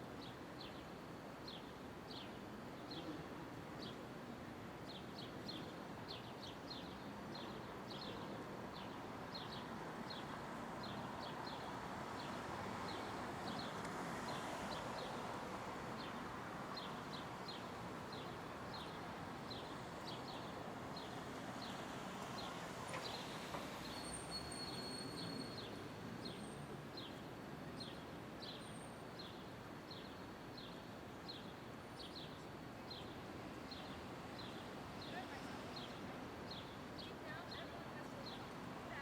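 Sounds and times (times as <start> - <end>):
city traffic noise: 0.0 - 39.0.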